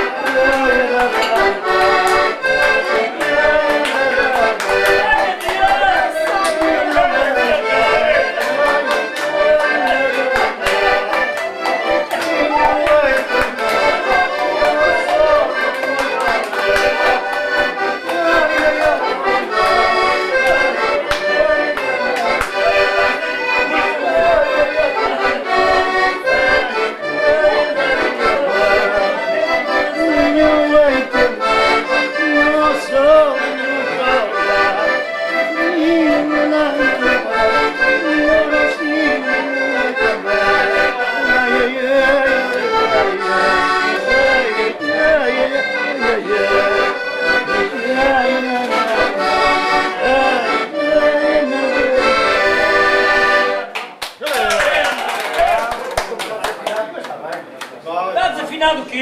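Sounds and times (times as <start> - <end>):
button accordions playing folk tune: 0.0 - 53.8.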